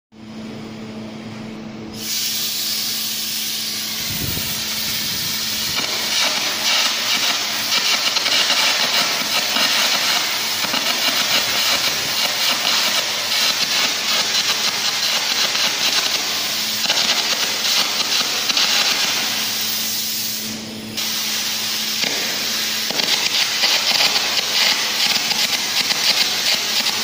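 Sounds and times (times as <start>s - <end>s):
arc crackling loudly: 2.0s - 27.0s
compressed air jet hissing: 2.0s - 27.0s.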